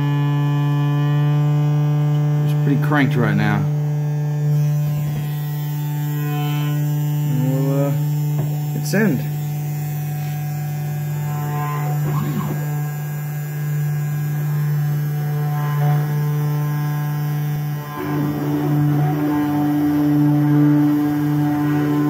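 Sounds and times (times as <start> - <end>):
spindle motor hum: 0.0 - 22.0
stepper motors whining: 3.7 - 22.0.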